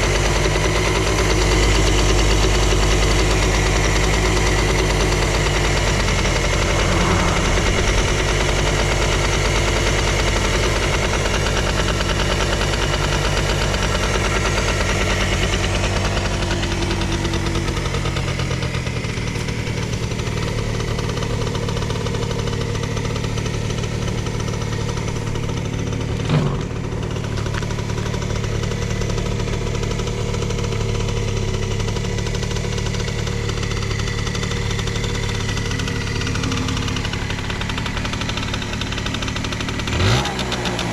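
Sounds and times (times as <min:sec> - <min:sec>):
scooter engine idling: 0:00.0 - 0:40.9.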